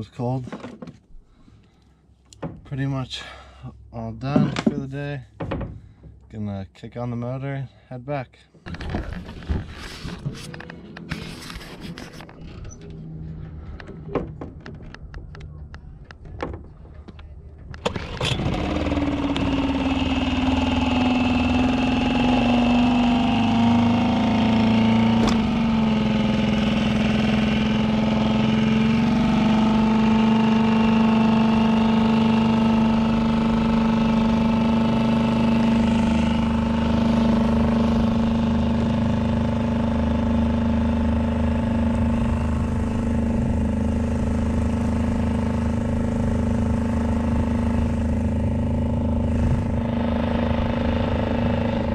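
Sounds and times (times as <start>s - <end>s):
outboard motor running: 0.0s - 6.3s, 8.6s - 51.9s.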